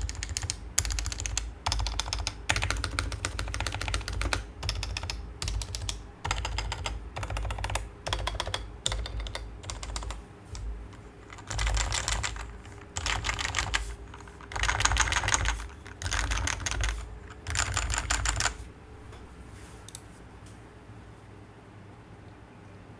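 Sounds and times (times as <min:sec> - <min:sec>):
keyboard typing: 0:00.0 - 0:18.7.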